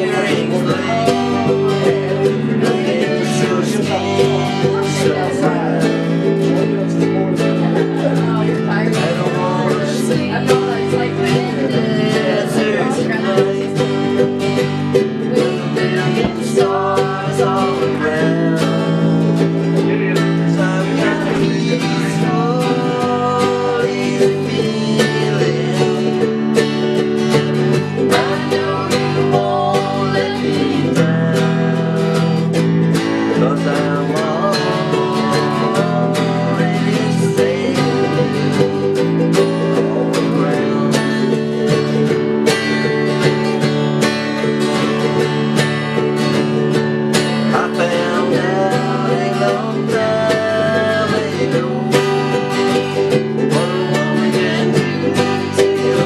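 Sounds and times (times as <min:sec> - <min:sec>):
acoustic guitars strumming: 0:00.0 - 0:56.0.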